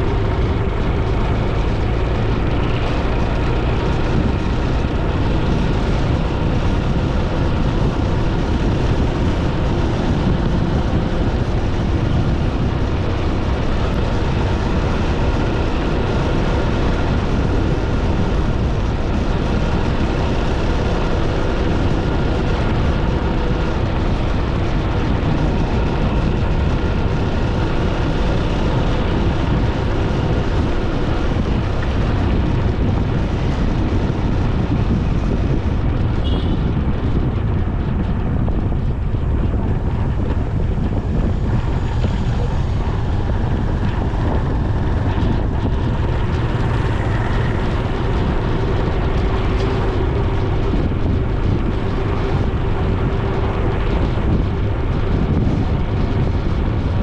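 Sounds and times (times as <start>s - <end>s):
vehicle running hum: 0.0s - 57.0s
wind rush on microphone: 0.0s - 57.0s.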